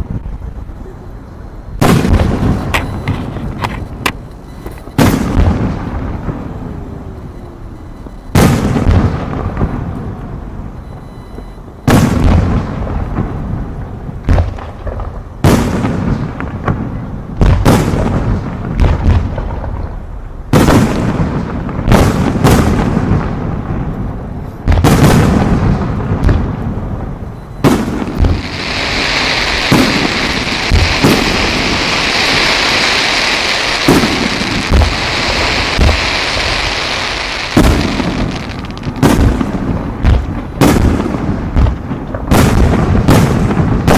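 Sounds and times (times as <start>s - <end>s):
fireworks booming: 0.0s - 43.9s
fireworks crackle and rumble: 0.0s - 43.9s.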